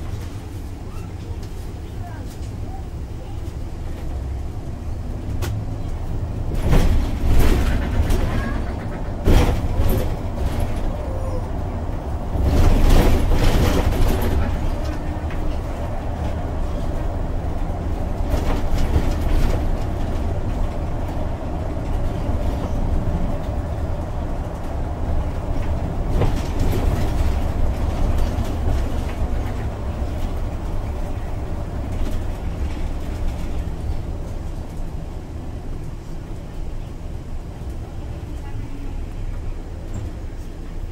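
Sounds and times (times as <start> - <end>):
bus engine and tyre rumble: 0.0 - 40.9.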